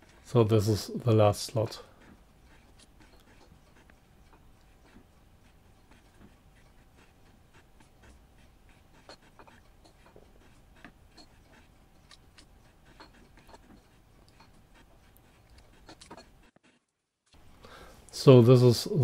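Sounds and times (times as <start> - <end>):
faint steady hum: 0.0 - 16.5, 17.4 - 19.0
cutter ticking and scraping: 0.0 - 16.9.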